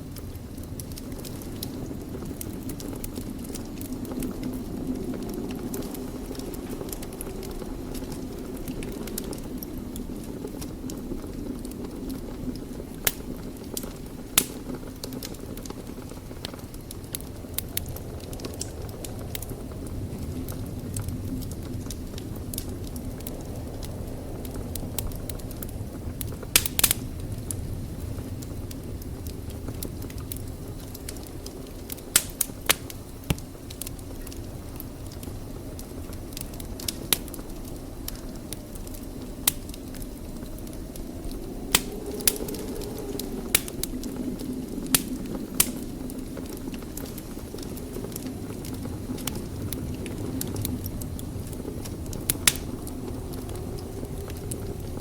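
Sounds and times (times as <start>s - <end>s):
fire crackles and pops: 0.0s - 55.0s
low rush of flame: 0.0s - 55.0s.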